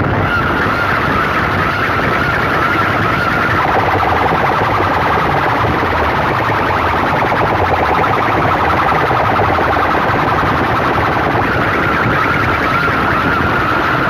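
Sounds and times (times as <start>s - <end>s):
loudspeakers blaring harsh sound: 0.0s - 14.0s
low pulsing: 0.0s - 14.0s
wavering high tone: 1.8s - 14.0s.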